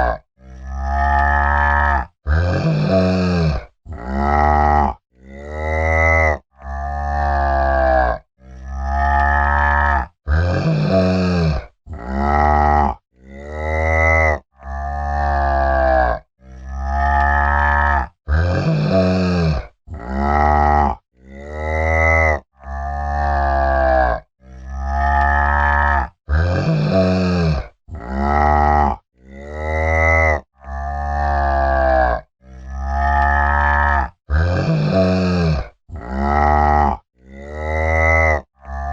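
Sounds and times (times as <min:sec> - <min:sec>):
cow mooing: 0:00.0 - 0:38.9.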